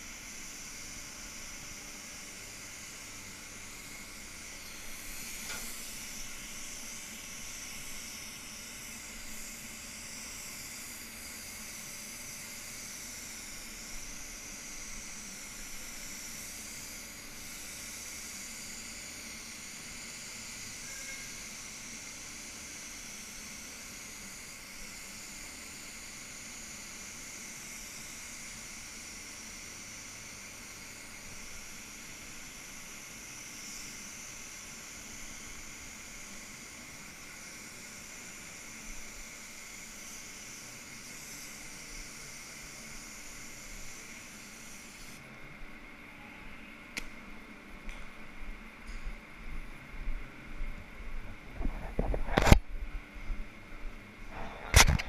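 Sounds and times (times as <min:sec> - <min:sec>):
spray gun hissing: 0:00.0 - 0:45.2.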